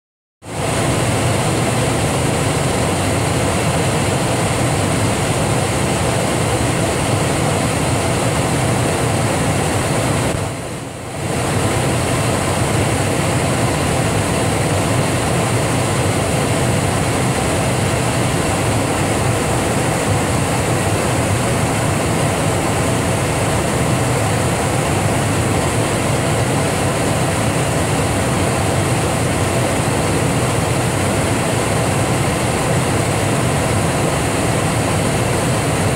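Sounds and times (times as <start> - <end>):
airliner cabin noise: 0.5 - 35.9.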